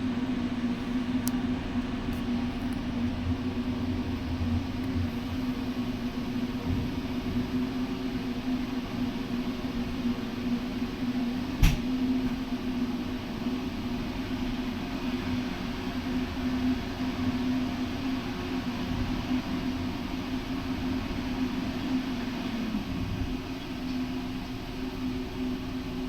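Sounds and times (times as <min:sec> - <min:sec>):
ship machinery drone: 0:00.0 - 0:26.0.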